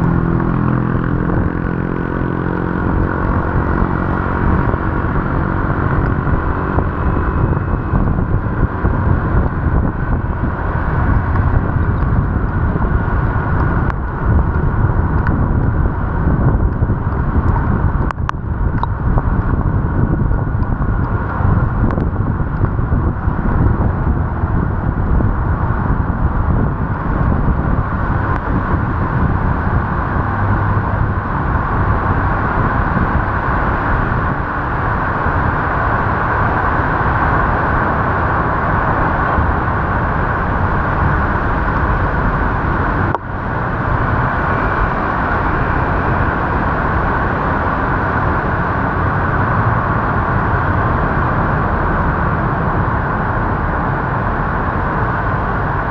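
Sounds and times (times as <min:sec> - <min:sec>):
traffic on wet road: 0:00.0 - 0:55.9
wind rushing: 0:00.0 - 0:55.9.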